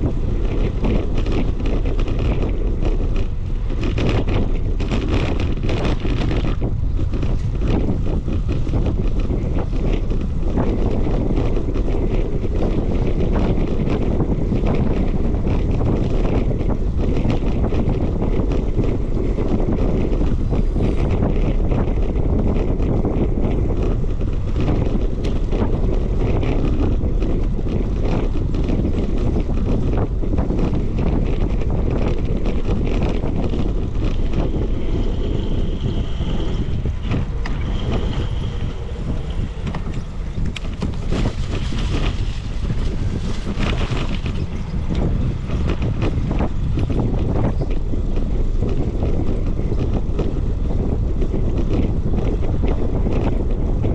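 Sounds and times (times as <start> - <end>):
bicycle rattles and clicks: 0.0 - 53.9
wind buffeting microphone: 0.0 - 53.9.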